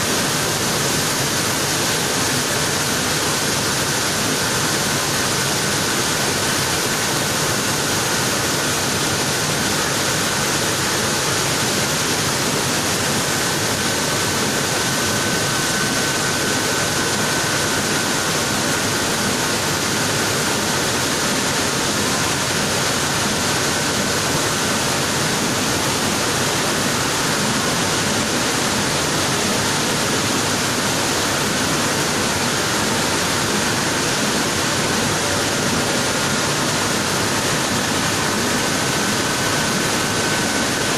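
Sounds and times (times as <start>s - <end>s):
mill machinery running: 0.0s - 40.9s.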